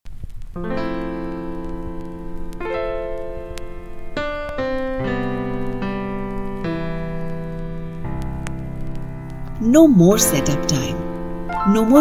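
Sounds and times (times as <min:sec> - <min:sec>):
piano-like keyboard chords: 0:00.6 - 0:12.0.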